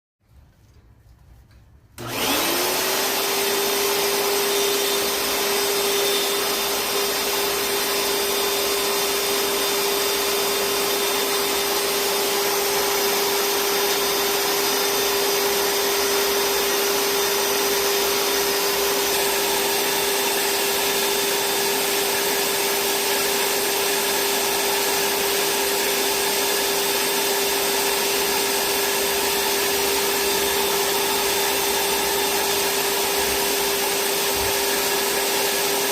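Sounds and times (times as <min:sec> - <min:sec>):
vacuum cleaner motor whine: 0:02.0 - 0:35.9.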